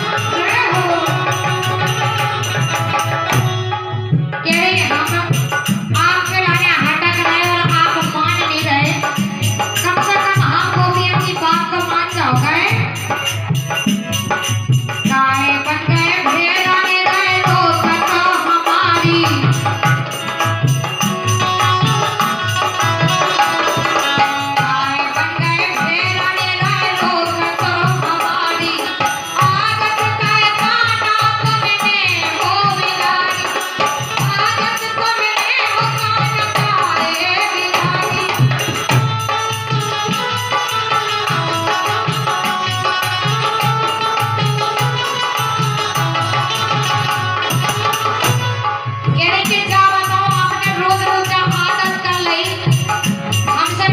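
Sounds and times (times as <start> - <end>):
woman singing: 0.0 - 13.3, 14.8 - 20.1, 21.0 - 48.4, 49.0 - 53.9
drum and rattling percussion: 0.0 - 53.9.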